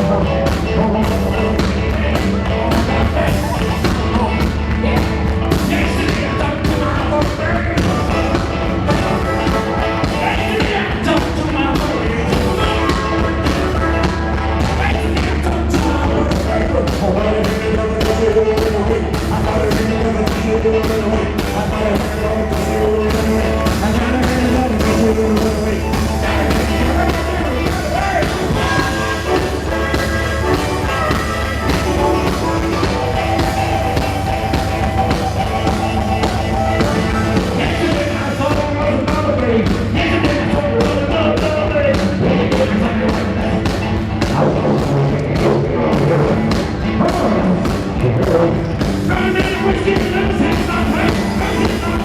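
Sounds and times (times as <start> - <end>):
rock and roll band playing: 0.0 - 52.0.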